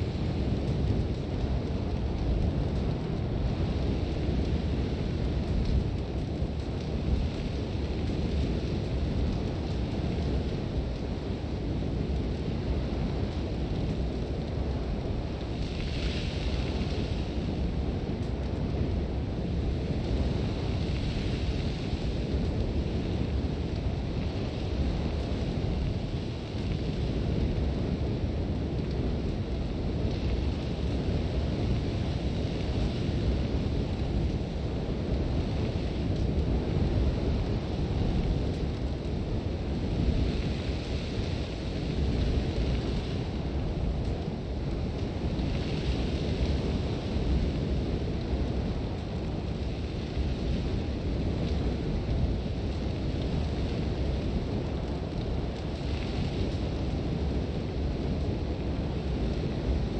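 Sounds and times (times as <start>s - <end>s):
strong wind rumbling: 0.0s - 59.9s.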